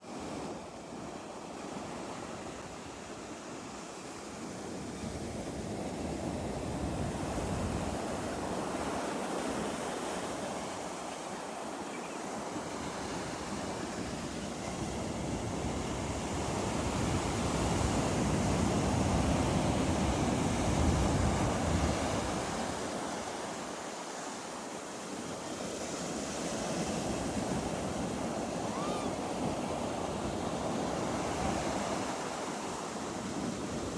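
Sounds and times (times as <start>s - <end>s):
ocean waves washing onto beach: 0.0s - 33.9s.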